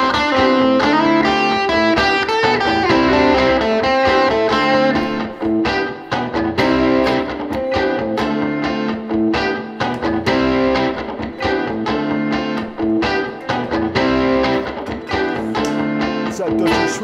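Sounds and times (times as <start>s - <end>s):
electric guitar chords and notes: 0.0s - 17.0s.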